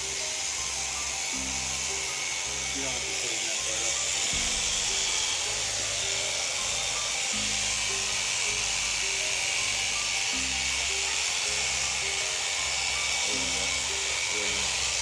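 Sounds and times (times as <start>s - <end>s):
background music with bass: 0.0s - 15.0s
electric shears buzzing: 0.0s - 15.0s.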